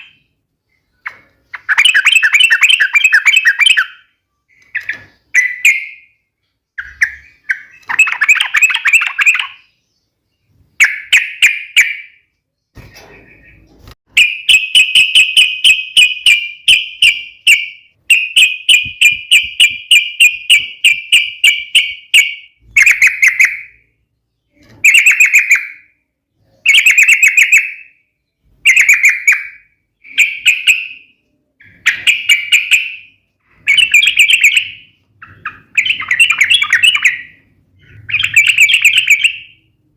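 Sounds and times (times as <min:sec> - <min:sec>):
bulbul singing rolling song: 0:00.0 - 0:39.9.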